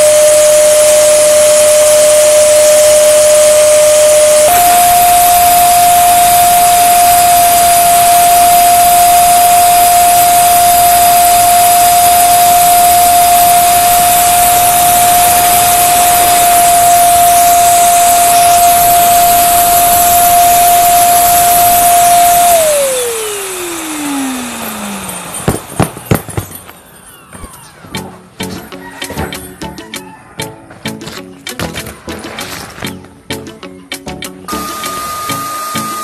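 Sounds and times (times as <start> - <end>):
balloon pump whining: 0.0 - 28.1, 34.5 - 36.0.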